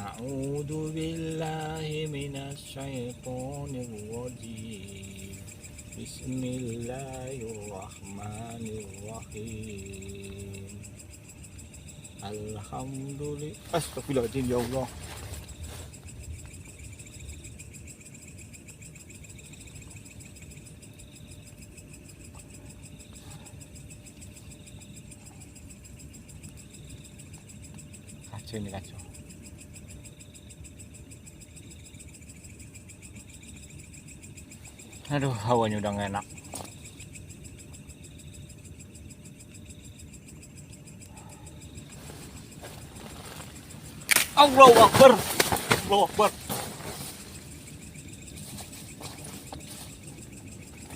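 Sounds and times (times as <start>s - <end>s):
high buzzing insect call: 0.0s - 50.9s
insects chirping in pulsing trill: 0.0s - 50.9s.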